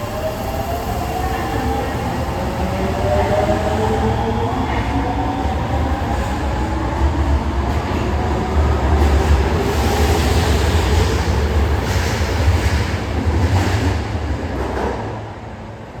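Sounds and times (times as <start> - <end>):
subway train rumbling past: 0.0 - 16.0.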